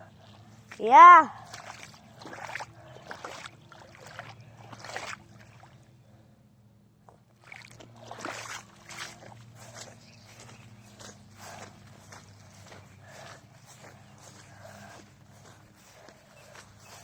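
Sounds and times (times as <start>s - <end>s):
footsteps squelching in mud: 0.0s - 5.9s, 7.3s - 17.0s
low steady hum: 0.0s - 17.0s.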